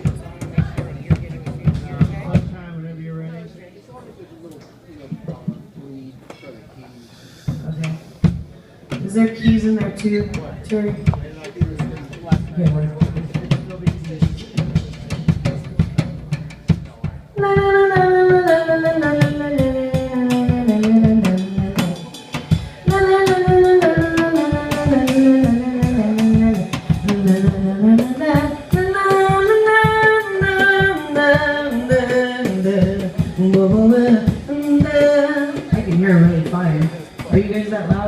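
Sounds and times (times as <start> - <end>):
drum kit beat: 0.0 - 2.8, 7.4 - 38.0.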